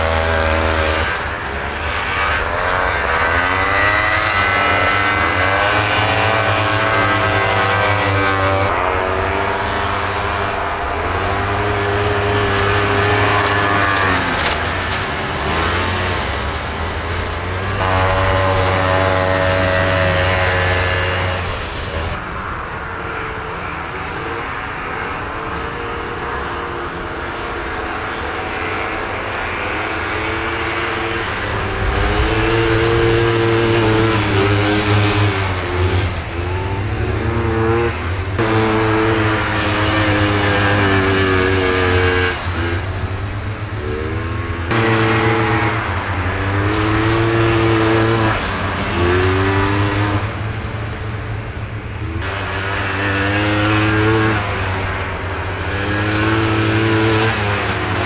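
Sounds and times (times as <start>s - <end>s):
snowmobile engines revving past: 0.0s - 22.5s, 23.1s - 58.0s.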